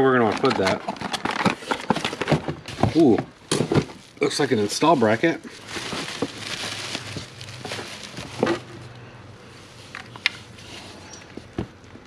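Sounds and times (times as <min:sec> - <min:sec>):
bubble wrap crinkling: 0:02.0 - 0:11.9.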